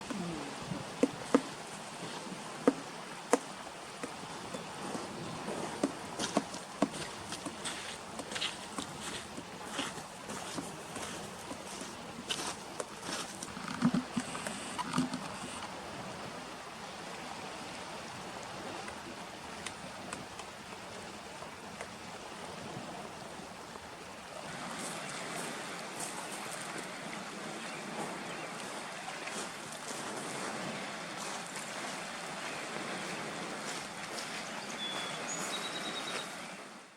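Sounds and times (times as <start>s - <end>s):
small waves washing on shore: 0.0s - 36.9s
wind: 0.0s - 36.9s.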